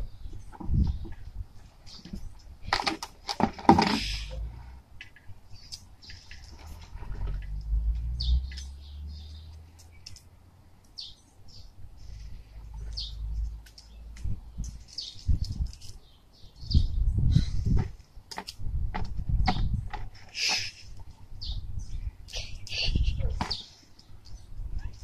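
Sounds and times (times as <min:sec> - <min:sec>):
small birds chirping: 0:00.0 - 0:02.6, 0:05.1 - 0:18.2, 0:19.3 - 0:25.0.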